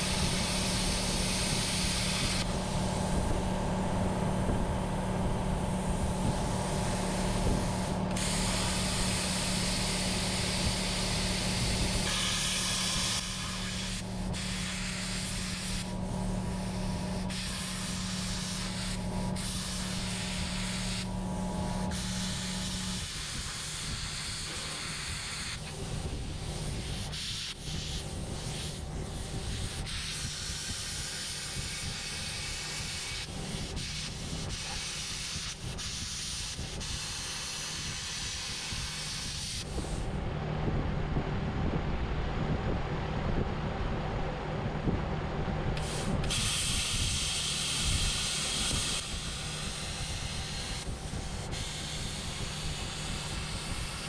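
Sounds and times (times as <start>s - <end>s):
metal cutting and welding hiss: 0.0s - 3.5s, 4.4s - 40.2s, 45.8s - 54.0s.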